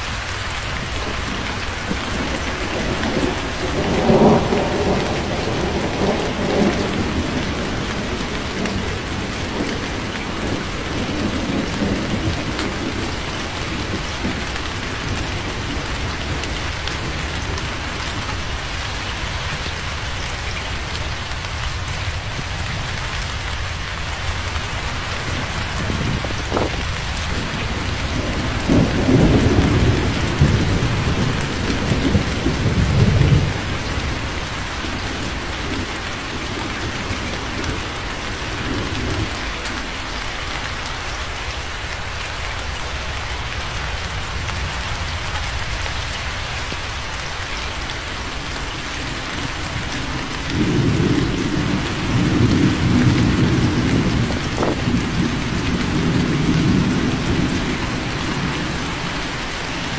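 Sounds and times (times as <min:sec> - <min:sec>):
steady rain falling: 0:00.0 - 0:59.9
rolling thunder: 0:00.6 - 0:20.8, 0:21.4 - 0:40.4, 0:48.2 - 0:59.9.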